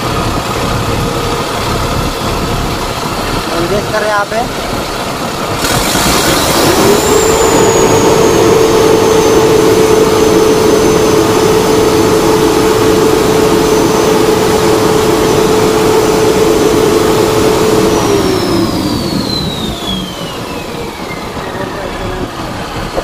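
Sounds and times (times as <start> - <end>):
diesel truck engine revving: 0.0 - 23.0
high whine: 0.0 - 23.0.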